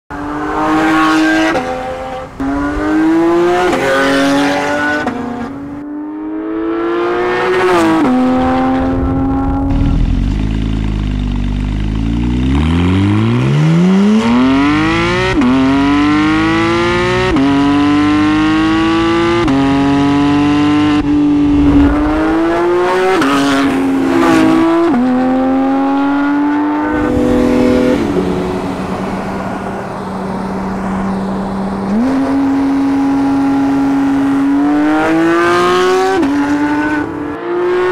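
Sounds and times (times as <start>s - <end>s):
sports car engine revving: 0.2s - 37.9s.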